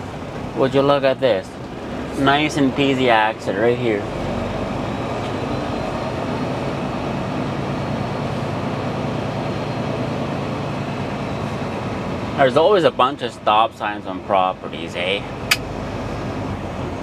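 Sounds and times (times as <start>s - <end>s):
truck diesel engine drone: 0.0s - 12.9s, 15.0s - 17.0s.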